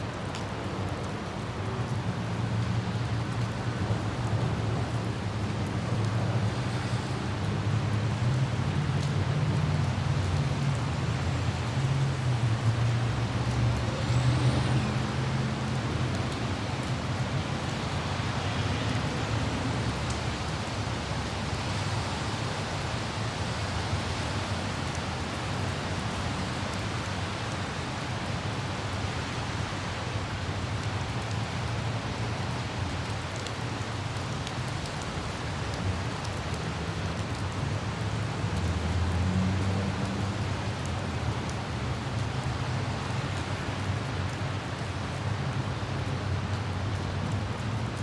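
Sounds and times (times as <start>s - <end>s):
light rain hissing: 0.0s - 48.0s
road traffic rumble: 0.0s - 48.0s
faint drip ticks: 0.1s - 48.0s.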